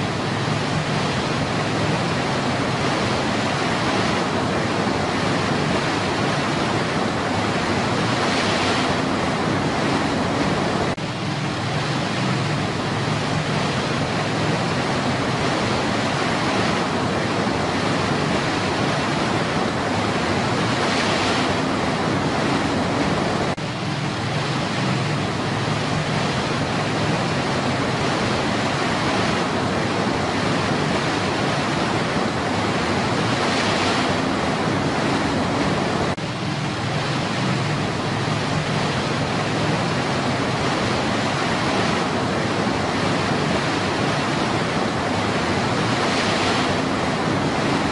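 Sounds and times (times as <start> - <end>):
stream rapids rushing: 0.0 - 47.9.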